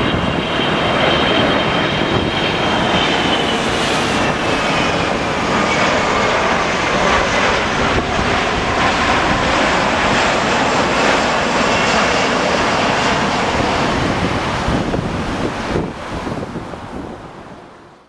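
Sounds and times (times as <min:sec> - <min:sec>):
jet engines passing overhead: 0:00.0 - 0:18.0.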